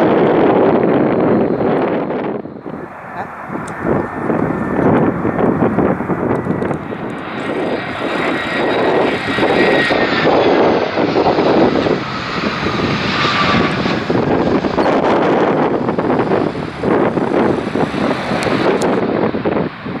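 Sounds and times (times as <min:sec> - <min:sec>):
jet engine whine: 0:00.0 - 0:20.0
wind buffeting microphone: 0:00.0 - 0:20.0.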